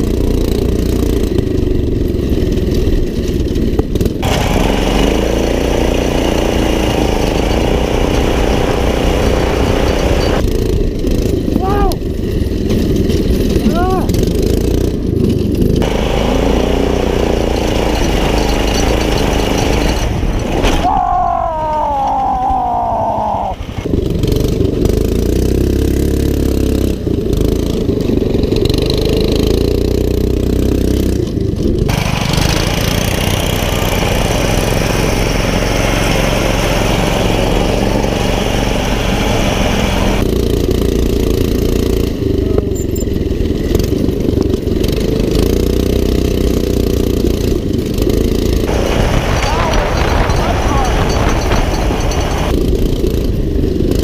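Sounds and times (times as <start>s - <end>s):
go-kart engines running hard: 0.0s - 54.0s.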